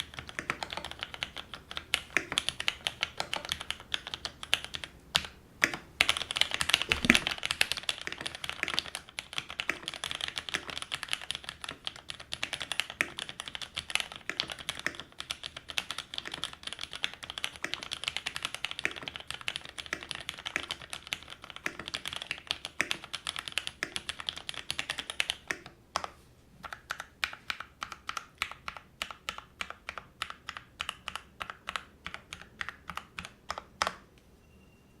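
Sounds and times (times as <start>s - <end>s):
mechanical keyboard typing: 0.0s - 34.0s.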